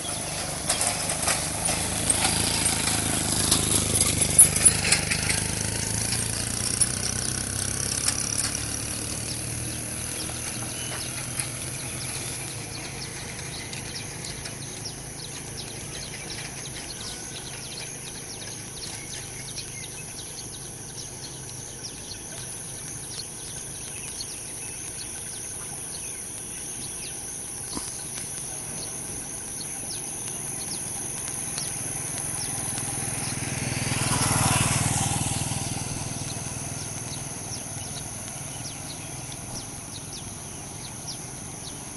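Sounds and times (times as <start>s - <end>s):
vehicle approaching: 0.0s - 41.9s
vehicle engine: 0.0s - 41.9s.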